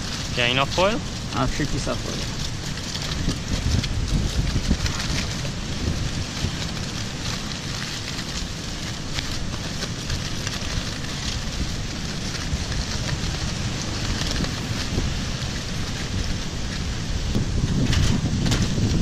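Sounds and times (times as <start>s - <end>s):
aluminium foil crinkling: 0.0s - 19.0s
wind rumble on microphone: 0.0s - 19.0s.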